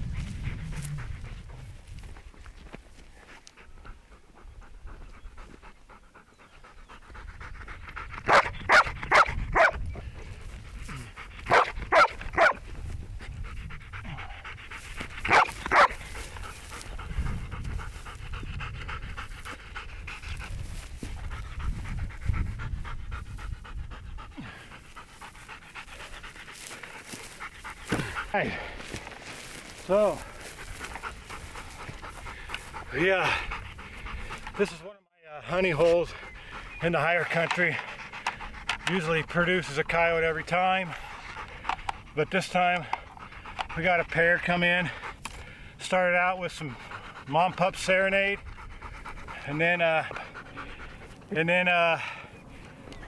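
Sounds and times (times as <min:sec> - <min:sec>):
dog panting: 0:00.0 - 0:53.0.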